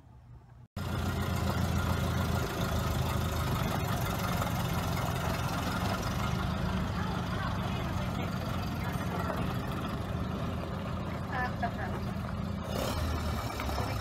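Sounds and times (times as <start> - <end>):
truck engine running: 0.8 - 14.0.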